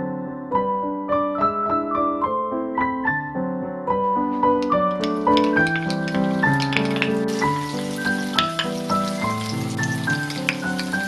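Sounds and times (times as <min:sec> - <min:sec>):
piano single notes: 0:00.7 - 0:11.0.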